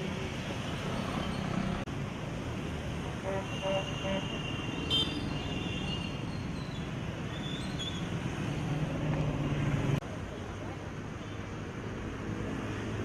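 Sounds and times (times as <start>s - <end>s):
vehicle noise: 0.0s - 13.0s.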